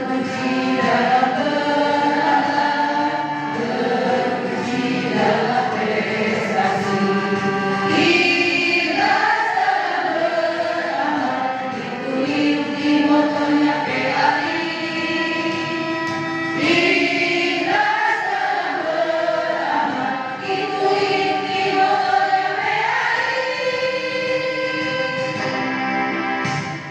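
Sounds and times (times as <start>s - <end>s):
group of voices singing a march: 0.0s - 26.9s.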